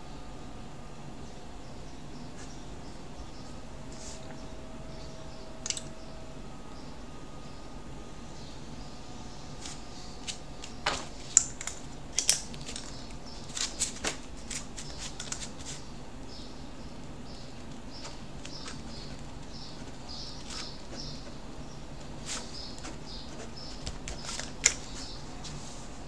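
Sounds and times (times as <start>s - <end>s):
steady faint hum: 0.0s - 26.0s.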